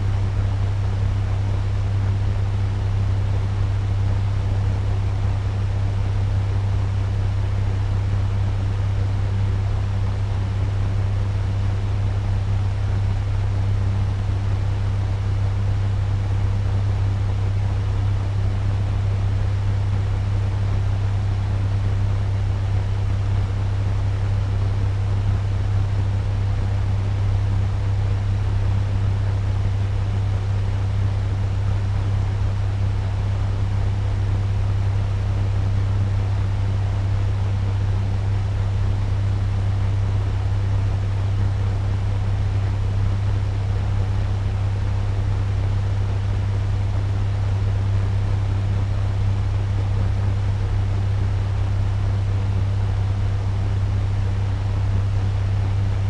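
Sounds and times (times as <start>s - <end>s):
fan blowing air: 0.0s - 56.0s
fan motor low hum: 0.0s - 56.0s.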